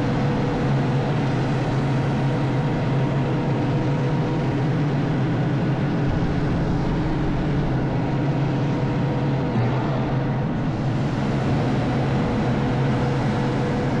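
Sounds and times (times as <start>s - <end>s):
diesel engine rumbling: 0.0s - 14.0s
faint steady whine: 0.0s - 14.0s.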